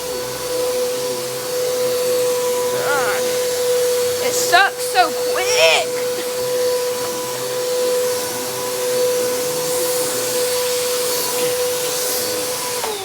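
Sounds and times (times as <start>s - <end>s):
upright vacuum cleaner running: 0.0s - 13.0s.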